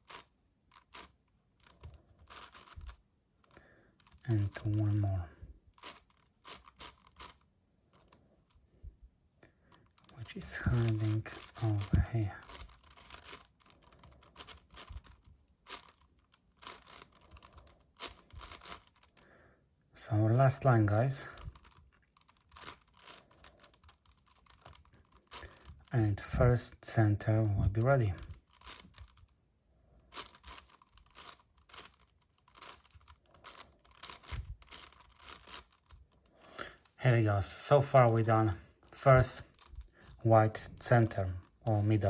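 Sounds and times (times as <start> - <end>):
puzzle cube plastic clicks: 0.0 - 5.1, 5.7 - 8.6, 9.7 - 19.2, 21.3 - 26.5, 27.6 - 29.4, 30.0 - 37.0, 37.8 - 42.0.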